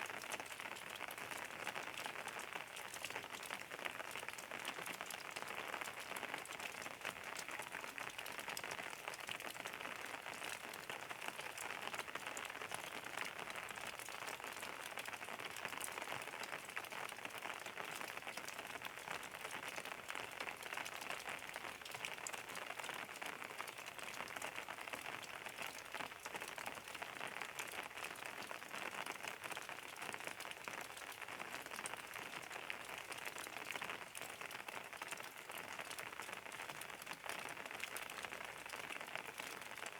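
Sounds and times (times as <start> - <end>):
steady rain falling: 0.1 - 39.9.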